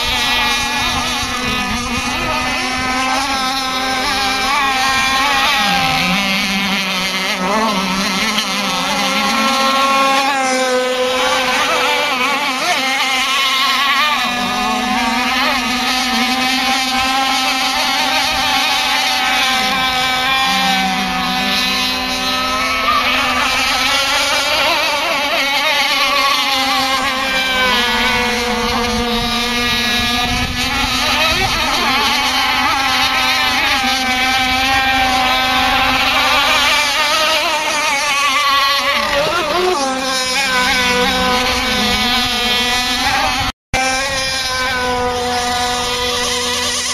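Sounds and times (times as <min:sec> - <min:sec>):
model boat engines revving: 0:00.0 - 0:46.9.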